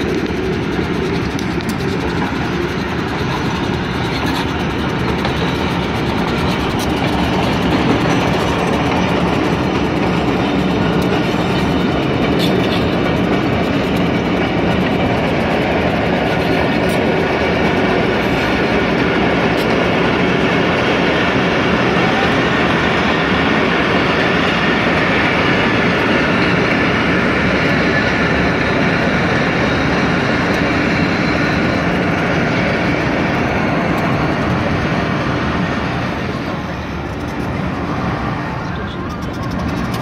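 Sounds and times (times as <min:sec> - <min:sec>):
train rumbling past: 0:00.0 - 0:40.0.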